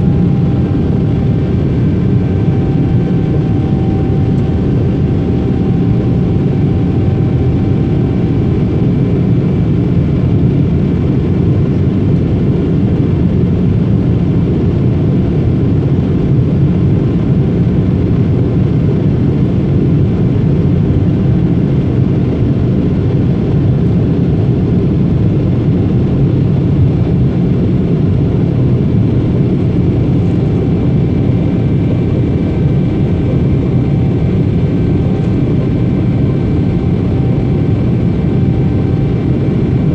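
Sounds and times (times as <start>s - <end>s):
jet engine roar in cabin: 0.0s - 39.9s.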